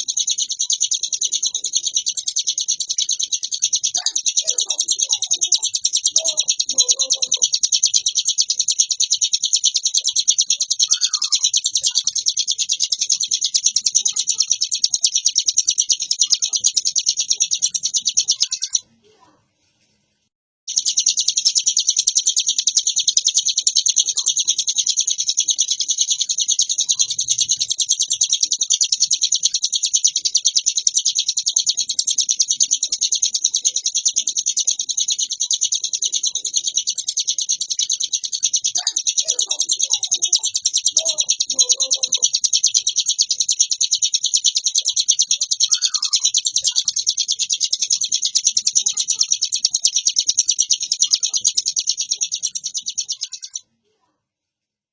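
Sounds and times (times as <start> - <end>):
bird singing rapid high trill: 0.0 - 18.9, 20.7 - 53.8.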